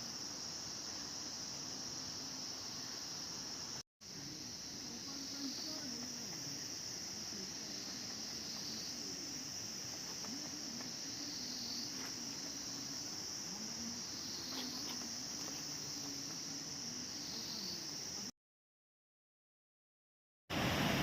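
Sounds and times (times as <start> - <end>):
insects shrilling: 0.0 - 18.3.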